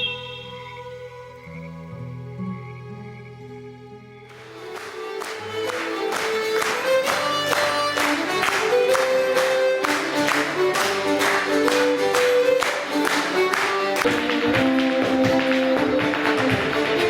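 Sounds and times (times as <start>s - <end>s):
instrumental melody: 0.0s - 17.0s.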